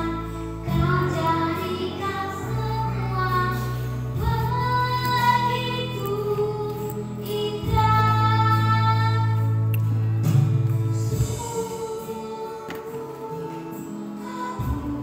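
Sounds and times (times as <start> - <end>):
child singing: 0.0 - 9.5, 11.2 - 15.0.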